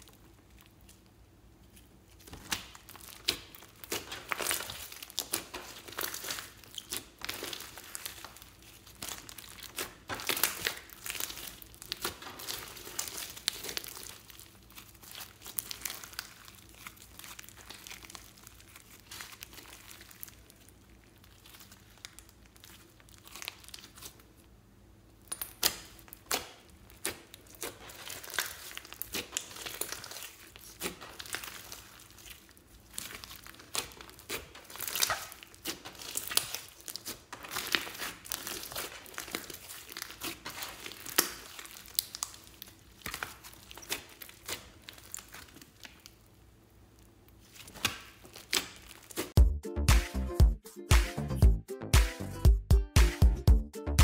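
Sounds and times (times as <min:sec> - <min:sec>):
slime crackling as kneaded: 0:00.0 - 0:49.4.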